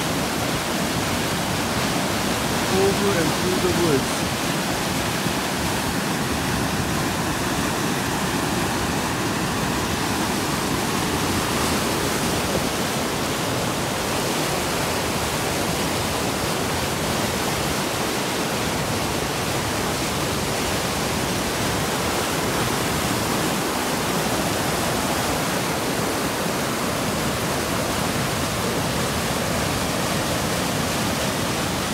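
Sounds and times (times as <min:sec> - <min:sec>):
river rushing over rock ledge: 0:00.0 - 0:31.9.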